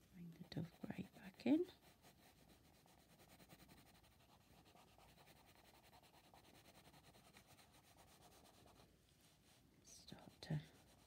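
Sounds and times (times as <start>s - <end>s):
pencil scratching on paper: 0.4s - 8.8s, 10.2s - 11.0s.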